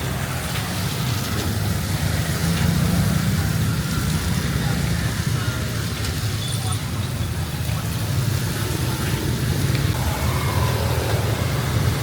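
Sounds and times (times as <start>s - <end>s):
heavy rain hiss: 0.0s - 12.0s
traffic rumble: 0.0s - 12.0s.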